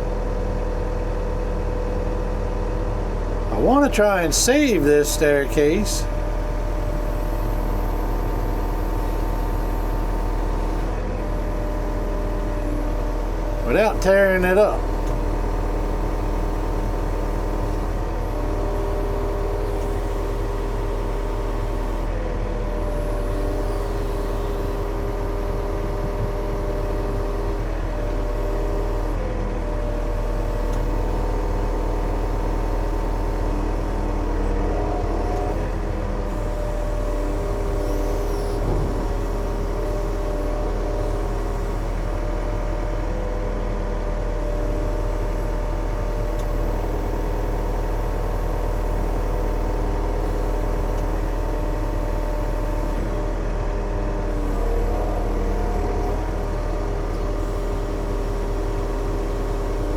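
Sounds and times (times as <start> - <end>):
diesel engine running: 0.1 - 59.9.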